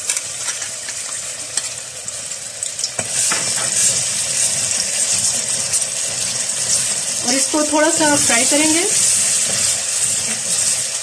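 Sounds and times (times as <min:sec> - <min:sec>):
hot oil sizzling in a pot: 0:00.0 - 0:11.0.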